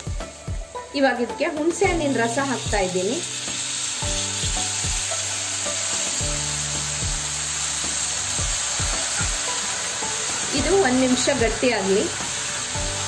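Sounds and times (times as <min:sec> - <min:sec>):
liquid sizzling in hot oil: 0:00.0 - 0:13.0.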